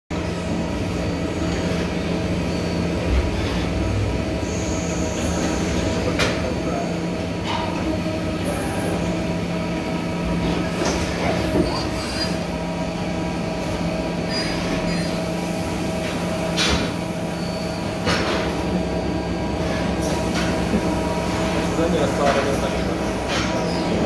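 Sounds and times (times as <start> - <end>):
lathe humming and whining: 0.2 - 24.0.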